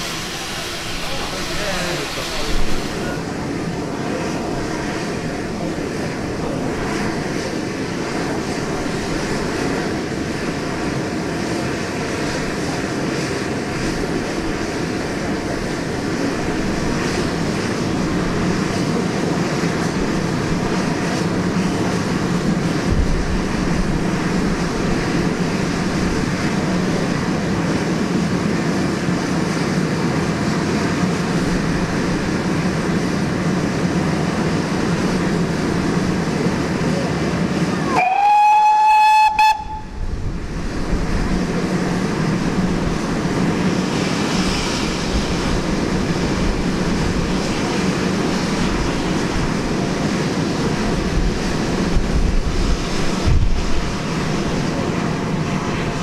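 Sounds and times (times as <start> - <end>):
steam hiss and rumble: 0.0 - 56.0.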